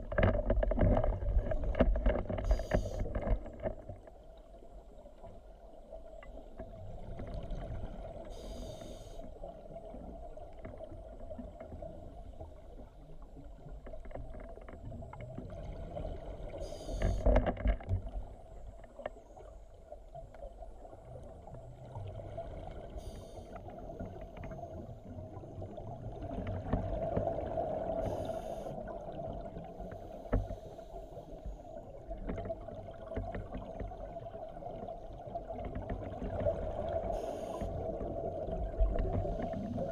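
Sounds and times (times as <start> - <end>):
muffled underwater hum and rumble: 0.0 - 39.9
scuba regulator bubbles underwater: 0.0 - 39.9.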